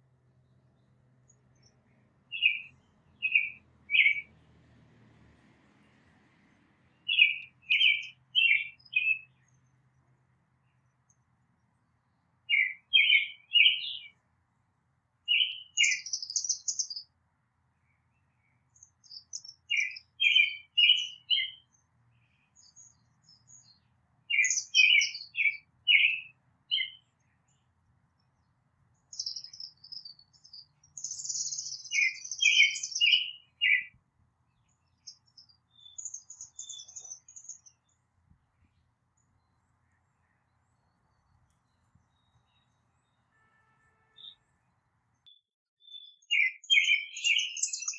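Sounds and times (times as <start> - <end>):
birds twittering: 0.0 - 4.5, 5.7 - 14.3, 15.3 - 17.1, 17.8 - 47.9.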